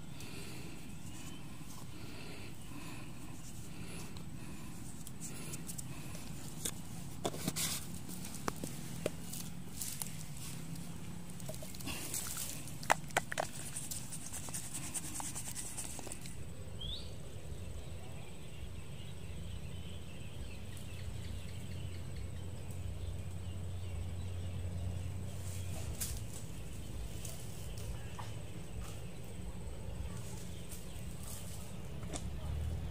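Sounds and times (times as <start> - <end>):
faint high insect calls: 0.0 - 32.0
faint steady hum: 0.0 - 32.9.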